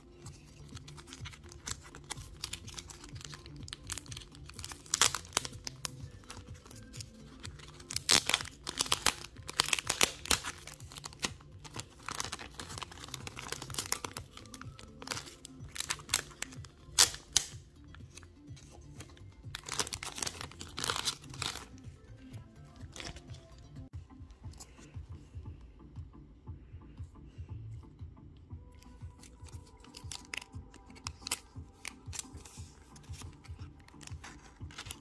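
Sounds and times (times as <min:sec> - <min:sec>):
plastic sleeve crinkling: 0:00.2 - 0:18.3, 0:18.9 - 0:23.7, 0:28.8 - 0:35.0.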